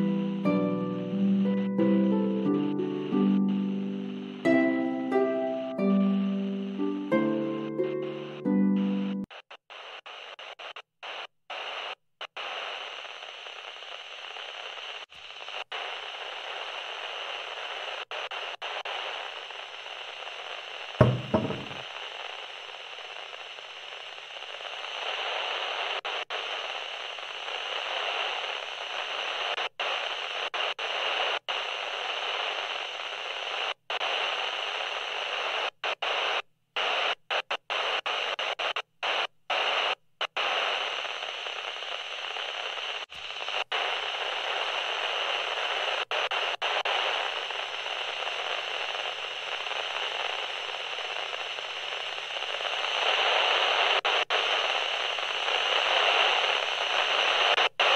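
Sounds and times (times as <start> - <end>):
static hiss: 0.0 - 57.9.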